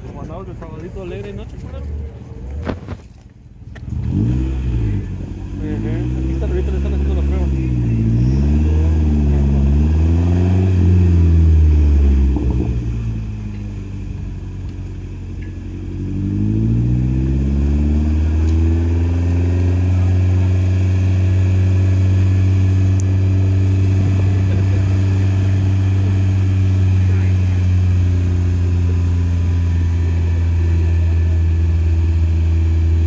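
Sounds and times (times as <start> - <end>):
car engine revving under load: 3.6 - 33.0.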